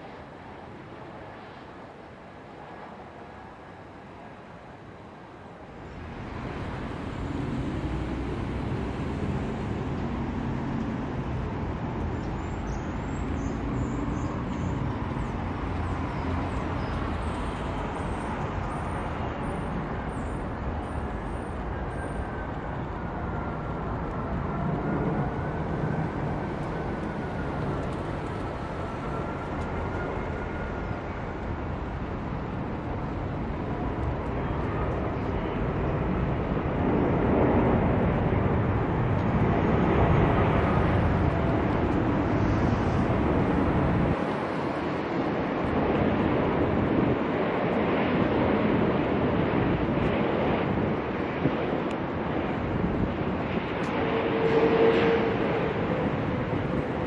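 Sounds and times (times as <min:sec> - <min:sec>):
jet engine rumble and hiss: 0:00.0 - 0:57.0.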